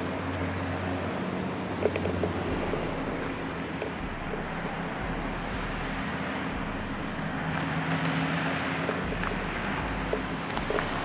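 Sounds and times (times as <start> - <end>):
car engine hum: 0.0 - 11.0
road and wind noise: 0.0 - 11.0.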